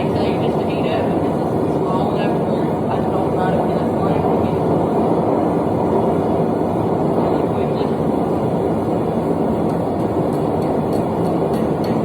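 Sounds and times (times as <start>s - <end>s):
forge burner rushing: 0.0s - 12.0s.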